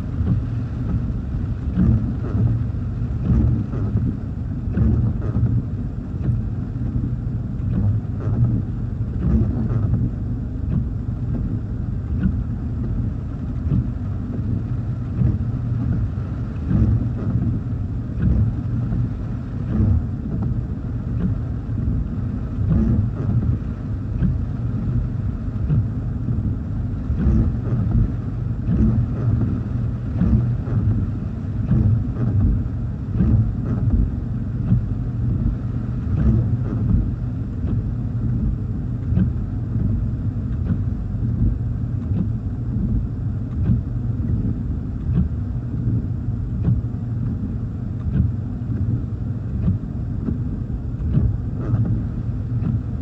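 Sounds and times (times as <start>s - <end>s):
car engine rumble: 0.0s - 53.0s
gusty wind buffeting car: 0.0s - 53.0s
rain: 0.0s - 53.0s
windshield wipers knocking: 0.2s - 5.6s, 7.6s - 8.6s, 9.2s - 10.1s, 10.7s - 22.0s, 22.6s - 26.6s, 27.2s - 46.0s, 46.6s - 49.0s, 49.6s - 53.0s.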